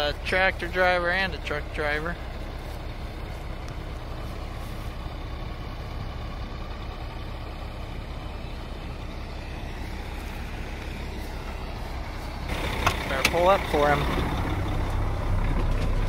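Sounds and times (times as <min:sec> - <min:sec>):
diesel engines running: 0:00.0 - 0:16.0.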